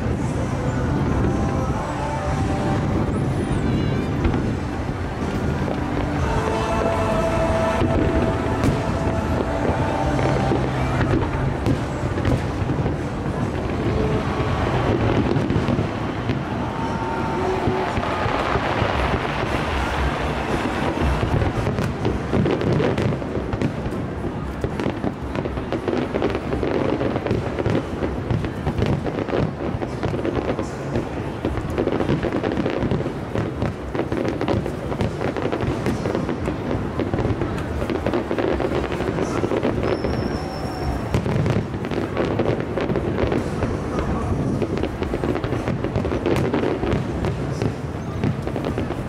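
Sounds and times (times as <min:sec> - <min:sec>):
fireworks bursts and crackle: 0:00.0 - 0:49.0.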